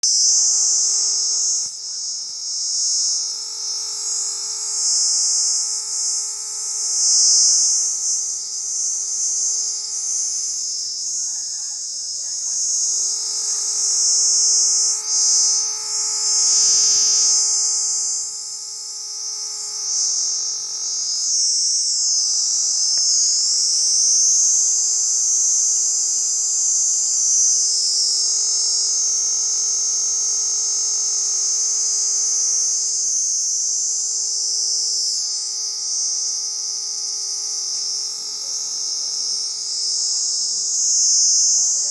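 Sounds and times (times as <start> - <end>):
cicada buzzing: 0.0 - 41.9.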